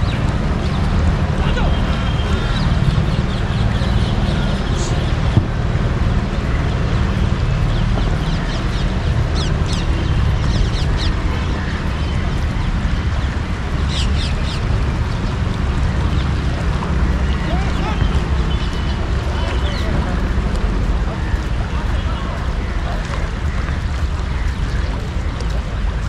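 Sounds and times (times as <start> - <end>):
small birds chirping: 0.0 - 26.0
wind buffeting microphone: 0.0 - 26.0.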